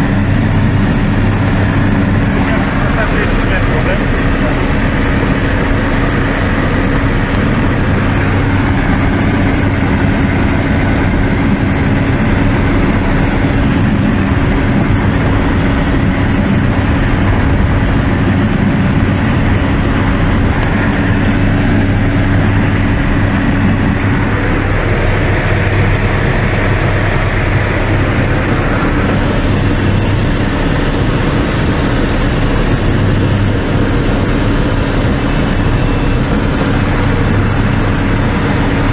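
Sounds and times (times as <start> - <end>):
propeller aircraft engine droning: 0.0 - 38.9.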